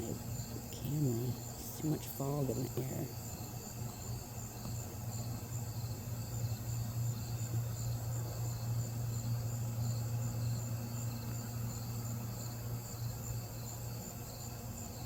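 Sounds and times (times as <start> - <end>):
insects chirping: 0.0 - 15.0
steady low hum: 0.0 - 15.0.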